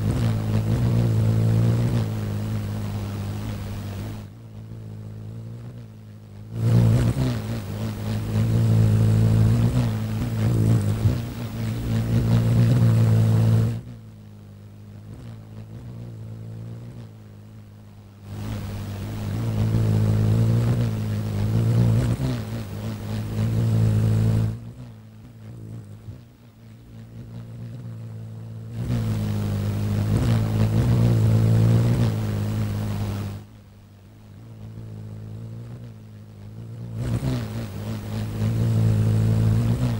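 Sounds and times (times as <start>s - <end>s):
hummingbird wings buzzing: 0.0s - 33.8s, 34.4s - 39.9s
steady low hum: 0.0s - 39.9s.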